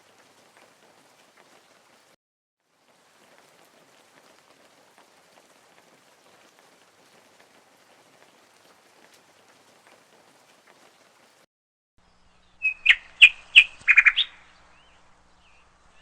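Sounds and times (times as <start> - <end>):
faint rain patter: 0.0 - 16.0.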